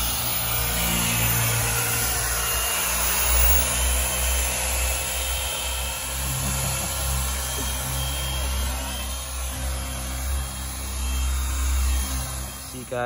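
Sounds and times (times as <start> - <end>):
electric car polisher running: 0.0 - 13.0.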